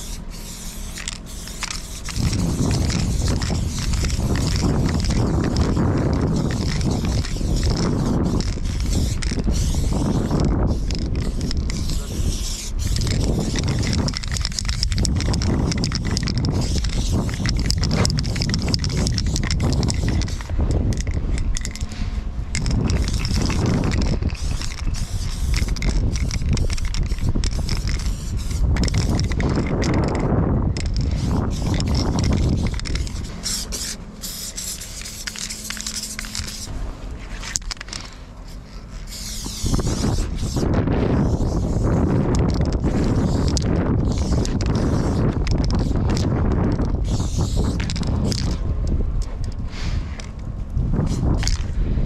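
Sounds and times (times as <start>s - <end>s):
spray paint can hissing: 0.0s - 48.7s, 51.0s - 51.8s
wind rumble on microphone: 0.0s - 52.0s.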